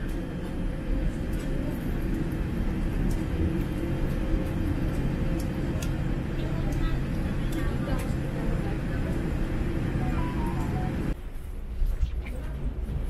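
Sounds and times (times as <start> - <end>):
jet airliner taxiing rumble: 0.0 - 13.0.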